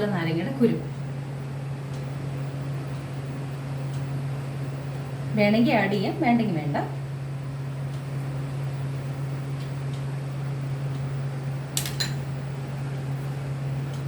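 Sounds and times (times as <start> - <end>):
fan humming: 0.0 - 14.0.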